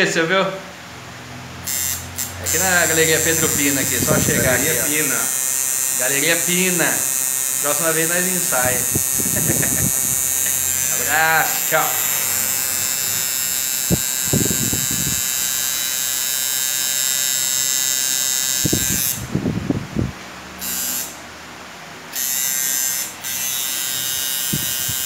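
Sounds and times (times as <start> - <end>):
tattoo machine buzzing: 1.6 - 19.4, 20.5 - 21.4, 22.1 - 25.0.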